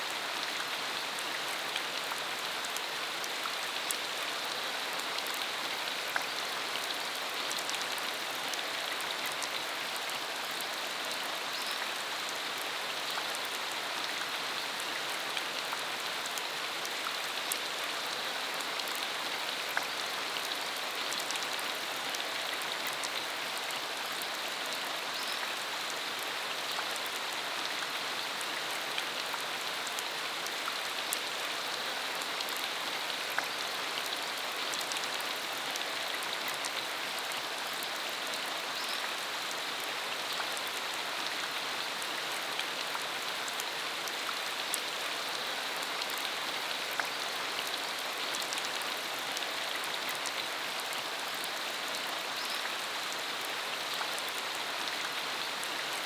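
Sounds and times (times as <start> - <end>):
rain on a dirt road: 0.0 - 56.0.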